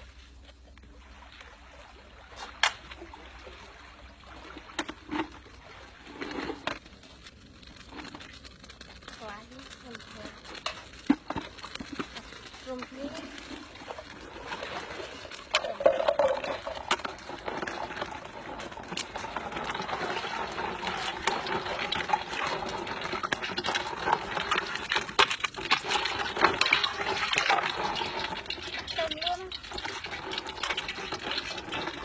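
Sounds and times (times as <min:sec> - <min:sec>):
water running into a container: 0:02.8 - 0:32.0.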